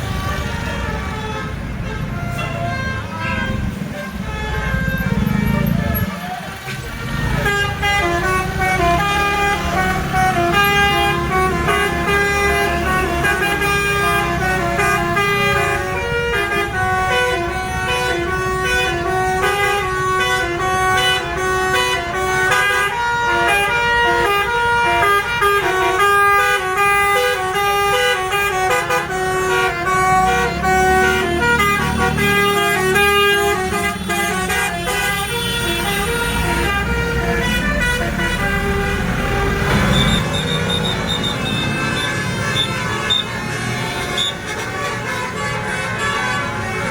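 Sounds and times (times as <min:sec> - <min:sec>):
bus engine rumble: 0:00.0 - 0:46.9
multi-trumpet air horn tune: 0:00.4 - 0:46.9.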